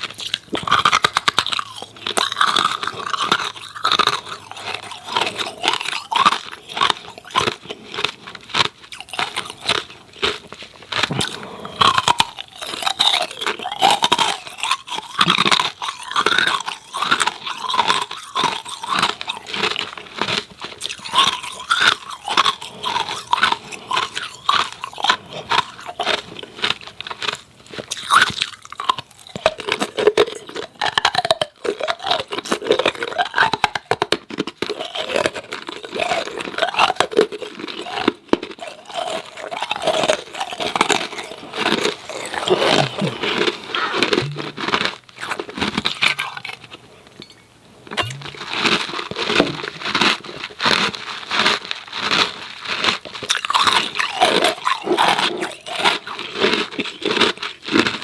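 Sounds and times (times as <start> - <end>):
ice cubes crunching in mouth: 0.0 - 58.0.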